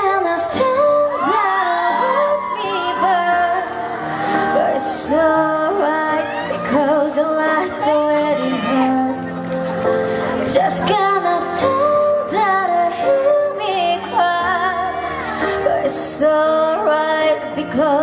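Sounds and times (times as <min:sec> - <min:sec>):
person singing with vibrato: 0:00.0 - 0:18.0.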